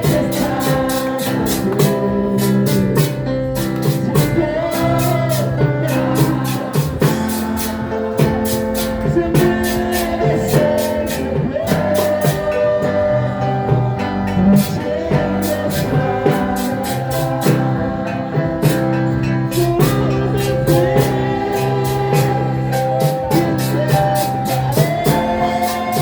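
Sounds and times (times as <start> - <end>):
drum beat: 0.0 - 13.0, 13.7 - 26.0
guitar: 0.0 - 26.0
person singing: 0.0 - 26.0.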